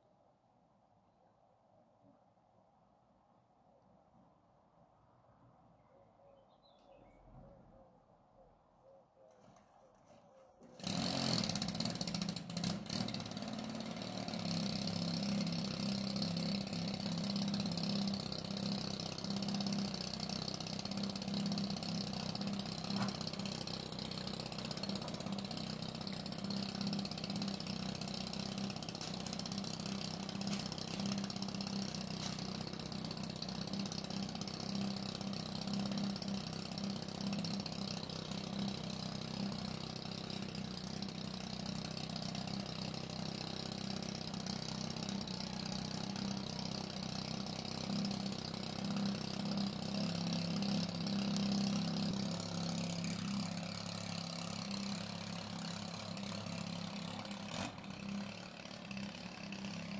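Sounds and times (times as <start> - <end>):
chainsaw engine idling: 10.6 - 59.9.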